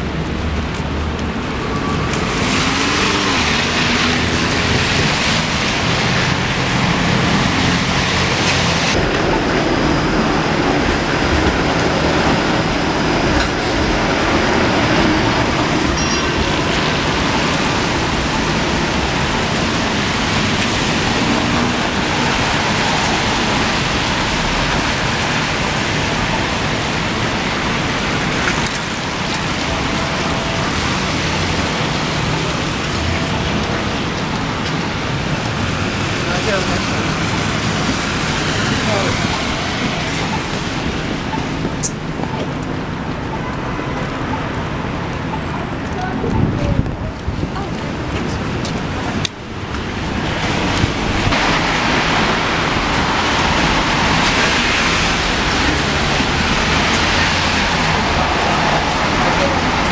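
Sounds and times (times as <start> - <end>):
rain falling: 0.0 - 59.9
traffic on wet roads: 0.0 - 59.9.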